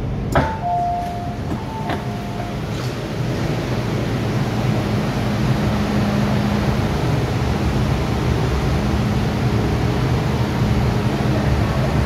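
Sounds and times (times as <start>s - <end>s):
low hum: 0.0s - 12.0s
train wheels rumbling: 0.0s - 12.0s.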